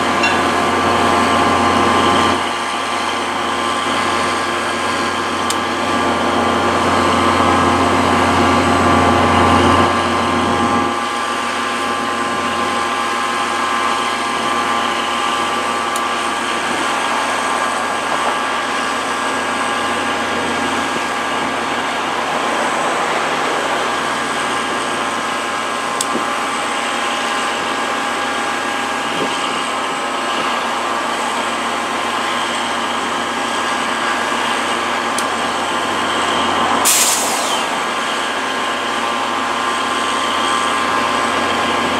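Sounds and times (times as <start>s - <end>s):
diesel locomotive engine drone: 0.0s - 41.9s.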